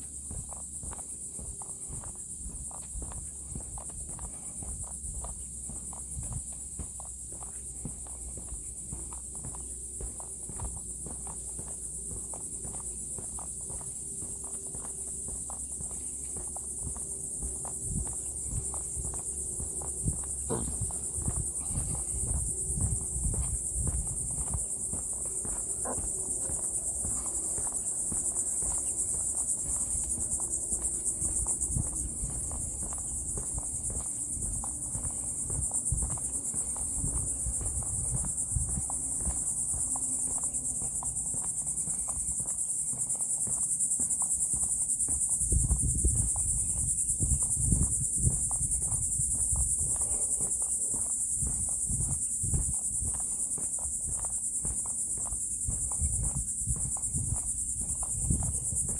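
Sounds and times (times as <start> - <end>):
footsteps on wooden boardwalk: 0.0 - 58.9
insects chirping: 0.0 - 58.9.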